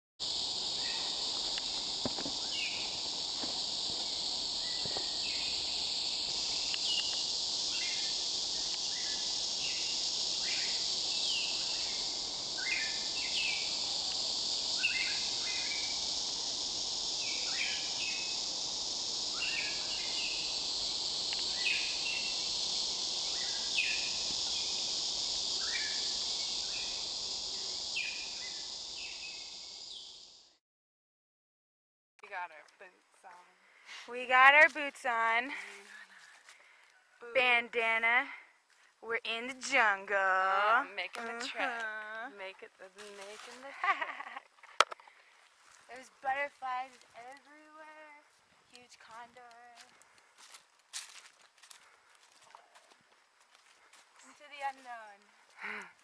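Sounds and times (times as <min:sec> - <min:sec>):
high-pitched insect drone: 0:00.2 - 0:30.6, 0:39.1 - 0:44.4, 0:45.6 - 0:56.0.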